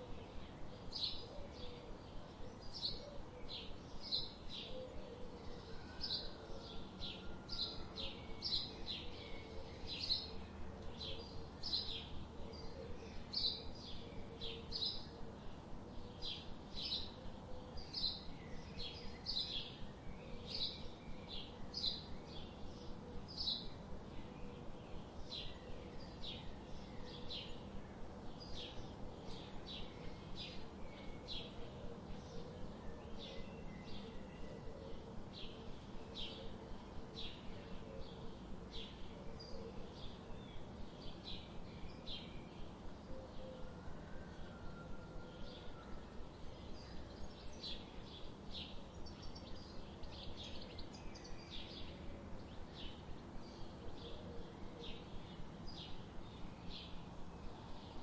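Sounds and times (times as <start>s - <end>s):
faint background hum: 0.0s - 58.0s
songbirds chirping: 0.0s - 58.0s.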